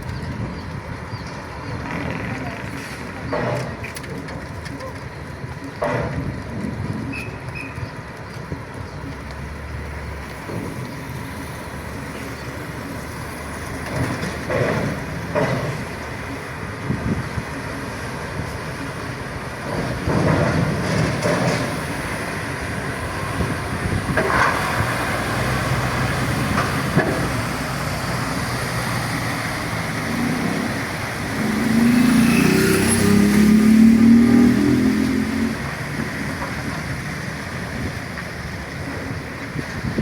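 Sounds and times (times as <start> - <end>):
diesel trucks rumbling: 0.0 - 40.0.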